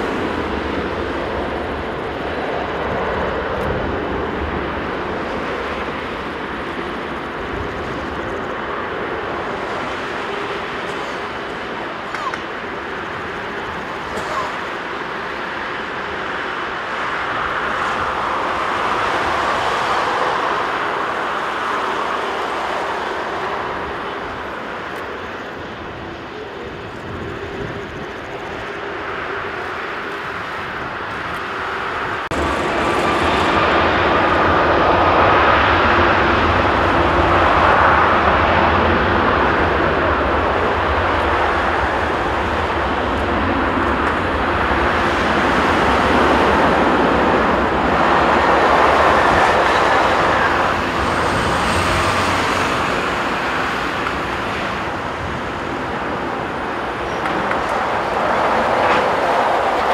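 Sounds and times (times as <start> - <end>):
jet engines humming: 0.0 - 59.9
jet engines spooling up: 0.0 - 59.9.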